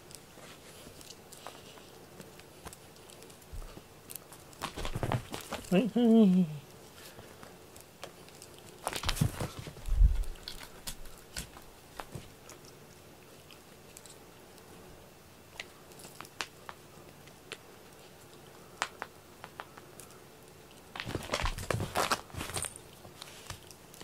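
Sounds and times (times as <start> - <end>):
teaser and paws clicking: 0.0 - 14.7, 15.5 - 24.0.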